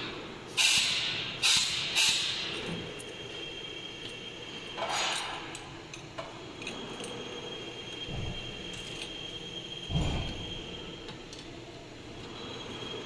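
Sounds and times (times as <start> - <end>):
steady high whine: 0.0 - 13.0.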